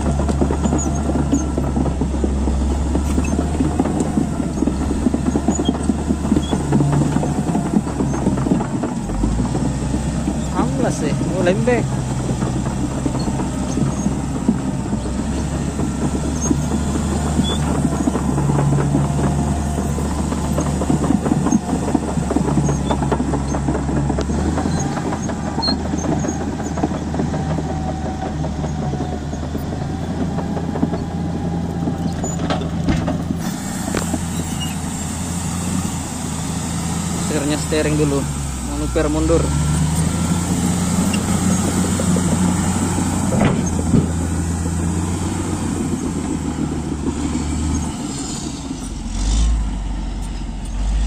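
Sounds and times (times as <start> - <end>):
bulldozer diesel engine running: 0.0 - 51.0
tracks clattering: 0.0 - 51.0.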